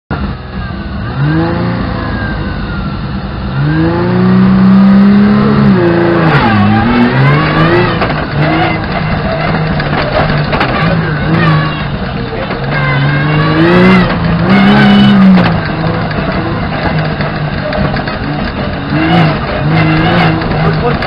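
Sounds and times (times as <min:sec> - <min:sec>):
rally car engine revving: 0:00.1 - 0:21.0.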